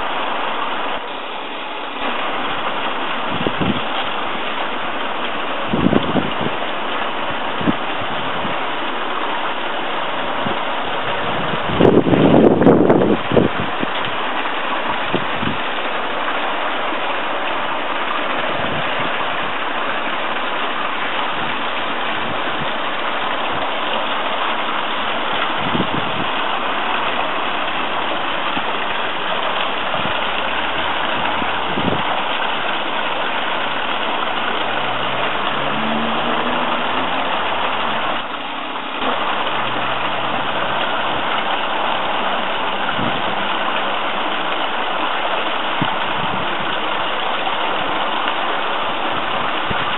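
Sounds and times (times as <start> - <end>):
waterfall pouring into pond: 0.0 - 49.9.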